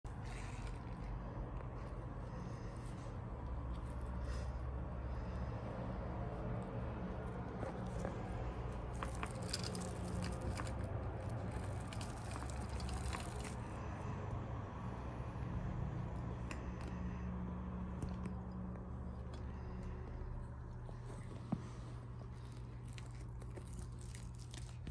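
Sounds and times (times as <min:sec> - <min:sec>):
kittens clicking and scratching: 0:00.1 - 0:13.7, 0:16.2 - 0:24.9.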